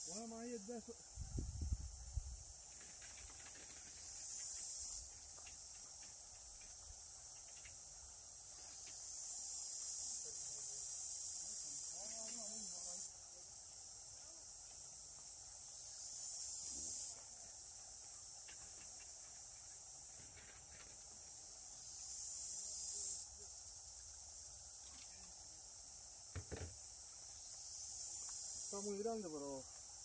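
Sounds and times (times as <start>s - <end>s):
insects shrilling: 0.0s - 30.0s.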